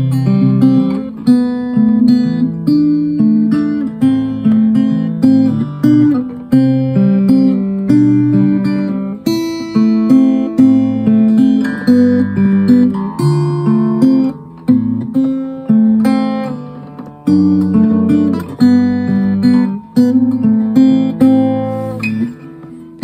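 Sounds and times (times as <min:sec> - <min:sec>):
acoustic guitar chords and notes: 0:00.0 - 0:23.0.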